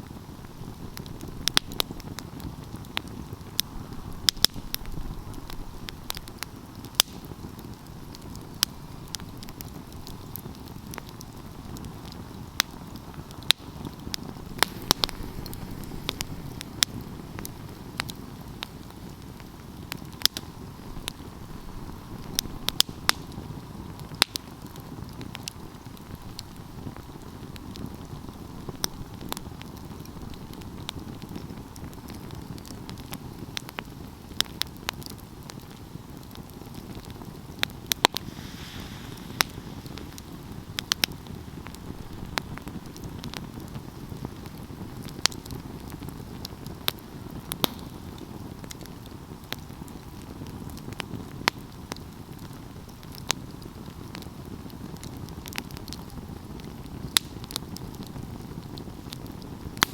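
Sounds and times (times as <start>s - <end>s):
burning wood crackling: 0.0s - 59.9s
fire rushing flames: 0.0s - 59.9s.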